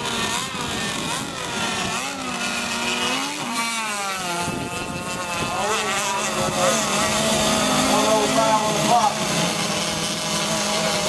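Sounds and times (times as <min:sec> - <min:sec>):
racing boat motors: 0:00.0 - 0:11.0.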